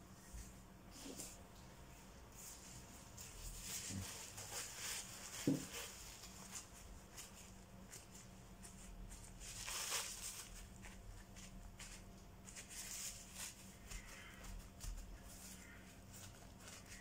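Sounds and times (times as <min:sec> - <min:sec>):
tissue dabbing on paper: 0:02.3 - 0:17.0.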